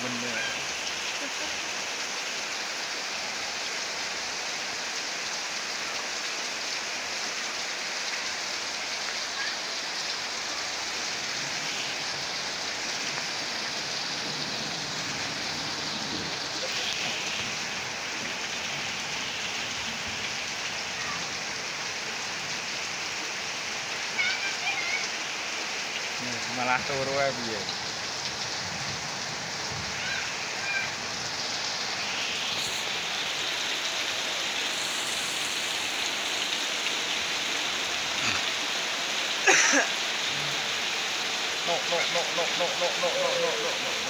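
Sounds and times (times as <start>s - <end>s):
heavy rain on earth: 0.0s - 44.0s.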